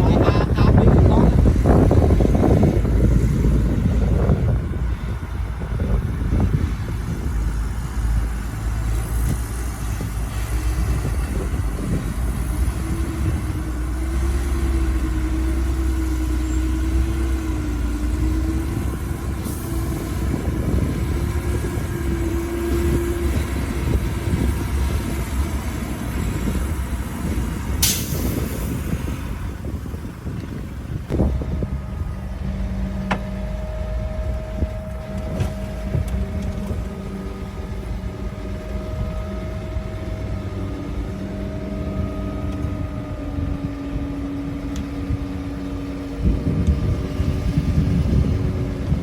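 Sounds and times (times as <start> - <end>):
diesel machinery rumbling: 0.0 - 49.0.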